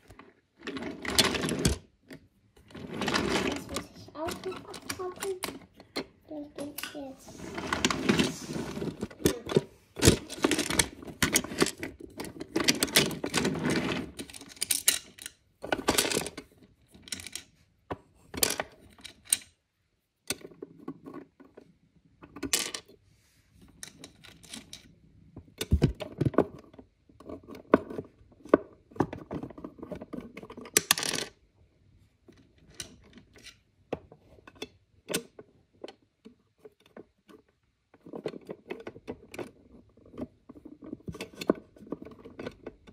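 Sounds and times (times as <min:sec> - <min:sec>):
wooden toy pieces clicking and knocking: 0:00.0 - 0:19.6, 0:20.2 - 0:23.0, 0:23.6 - 0:31.5, 0:32.2 - 0:42.9.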